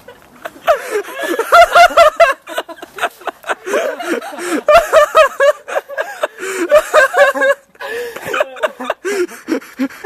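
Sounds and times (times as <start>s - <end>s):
people laughing hard: 0.0s - 10.0s.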